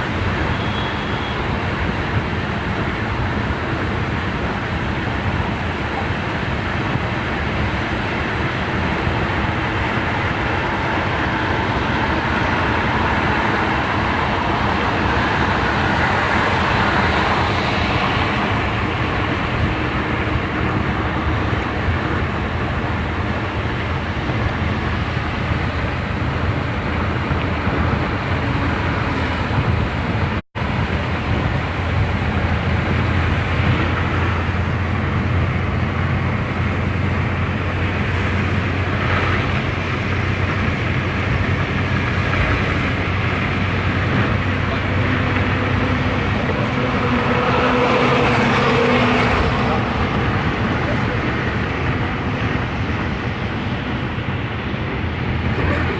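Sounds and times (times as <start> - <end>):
low car engine hum: 0.0 - 55.9
road noise: 0.0 - 55.9.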